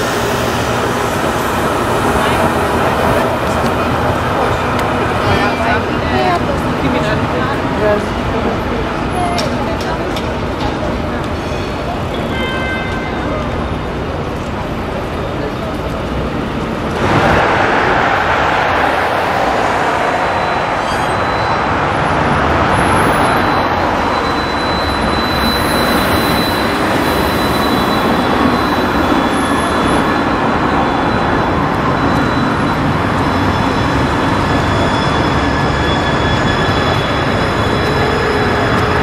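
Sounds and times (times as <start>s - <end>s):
trams and cars passing: 0.0s - 39.0s.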